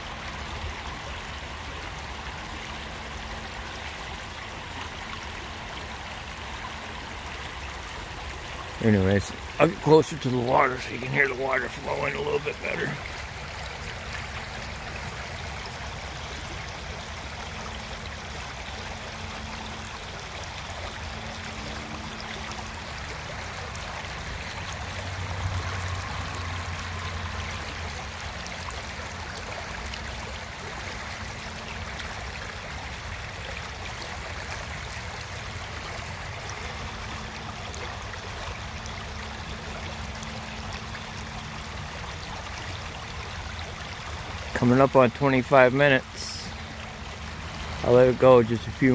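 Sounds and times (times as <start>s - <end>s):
creek water flowing over rocks: 0.0s - 48.9s.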